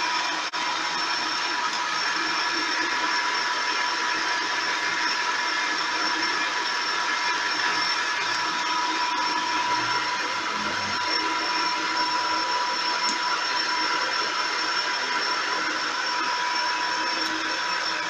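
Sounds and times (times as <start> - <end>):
lathe whirring with gear whine: 0.0 - 18.0.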